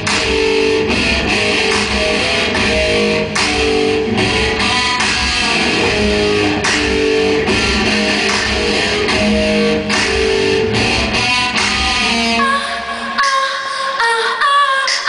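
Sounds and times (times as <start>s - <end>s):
heavy pulsing bass: 0.0s - 12.4s
electric guitar sustained notes: 0.0s - 14.1s.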